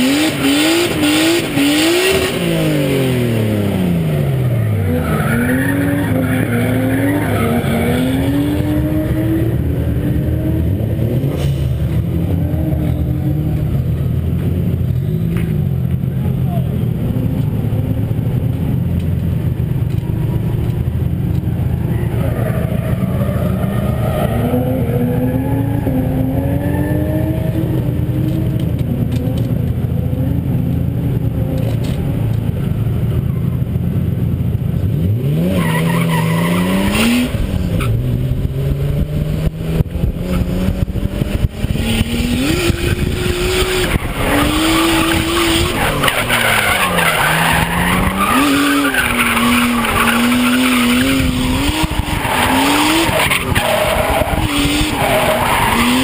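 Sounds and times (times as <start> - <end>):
tyres skidding and squealing: 0.0 - 38.6, 39.5 - 56.0
car engine revving: 0.0 - 56.0.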